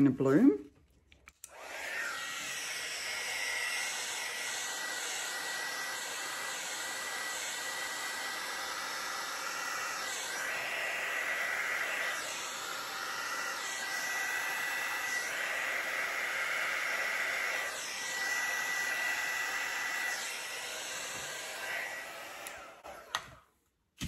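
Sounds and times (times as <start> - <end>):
heat tool blowing hot air: 1.5 - 23.4.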